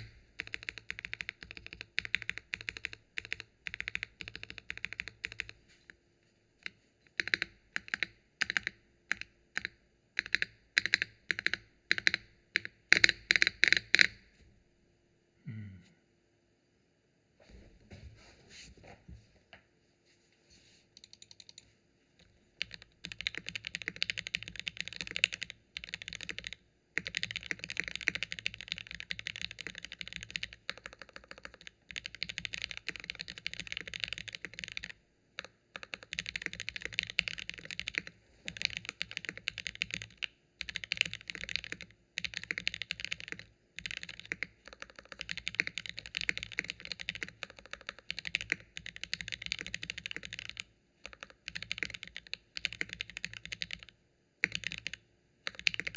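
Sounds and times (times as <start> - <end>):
typing on mechanical keyboard: 0.0 - 5.6, 6.6 - 14.2, 21.0 - 21.6, 22.6 - 55.9.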